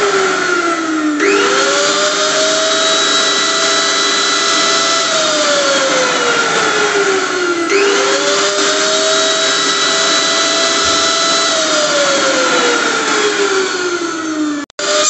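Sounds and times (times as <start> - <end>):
electric blender running: 0.0 - 15.0.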